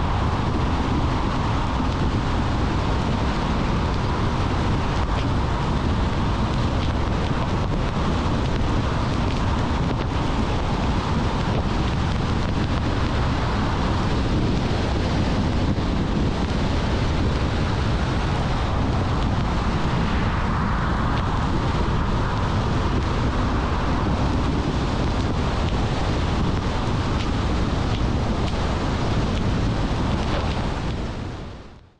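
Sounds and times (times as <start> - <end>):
car road noise: 0.0 - 31.9.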